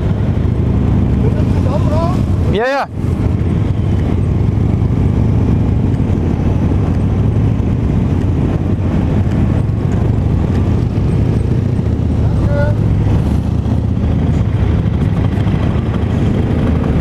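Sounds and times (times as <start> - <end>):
motorcycles riding: 0.0 - 17.0
scooter engine and road noise: 0.0 - 17.0.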